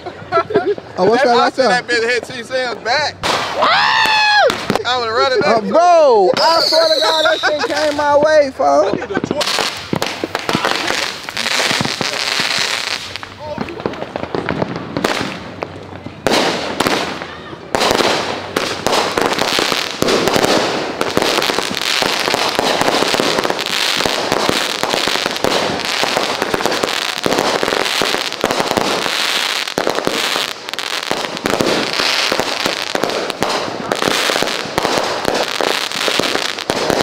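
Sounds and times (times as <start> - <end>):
fireworks crackling and popping: 0.0 - 37.0.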